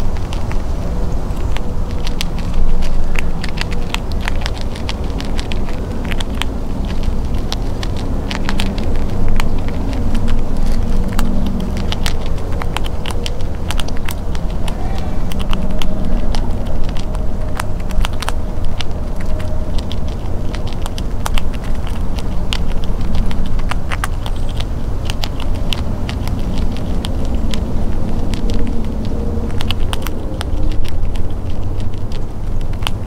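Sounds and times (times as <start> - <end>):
squirrel crunching peanuts: 0.0 - 33.0
steady low rumble: 0.0 - 33.0.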